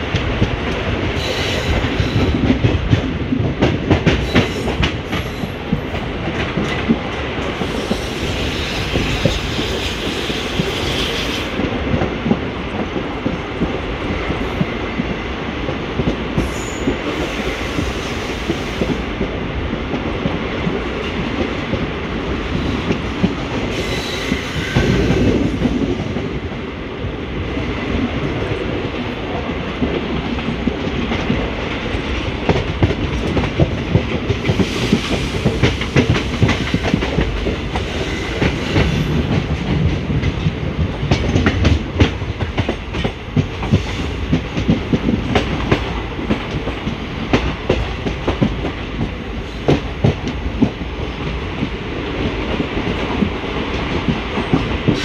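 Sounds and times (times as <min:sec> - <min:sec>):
train coach rumbling: 0:00.0 - 0:55.0.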